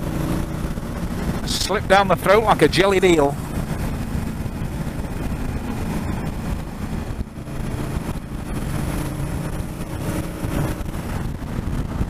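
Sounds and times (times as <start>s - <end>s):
motorcycle engine: 0.0s - 12.0s
wind rush: 0.0s - 12.0s.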